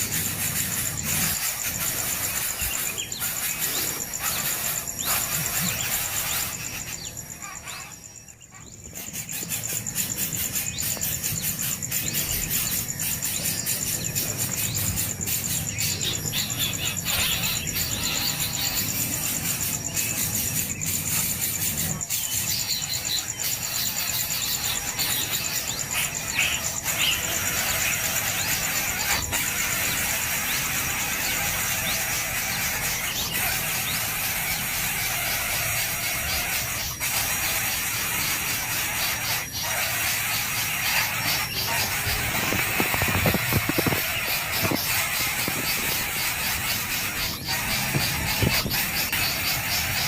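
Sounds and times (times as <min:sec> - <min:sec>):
nestlings begging calls: 0:00.0 - 0:50.0.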